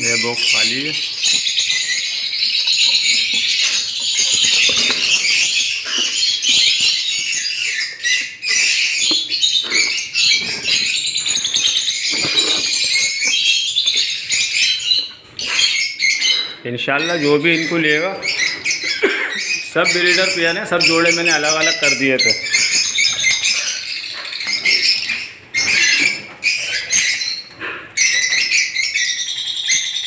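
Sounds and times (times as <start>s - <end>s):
lovebirds chattering: 0.0s - 30.0s.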